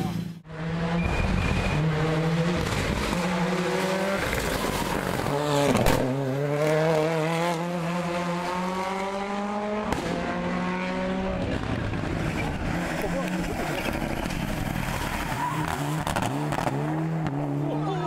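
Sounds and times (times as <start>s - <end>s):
car engine accelerating hard: 0.4s - 18.0s.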